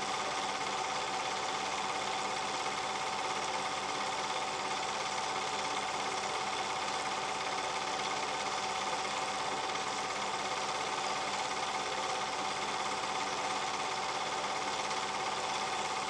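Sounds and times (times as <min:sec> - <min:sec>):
film projector whirring and clattering: 0:00.0 - 0:16.0.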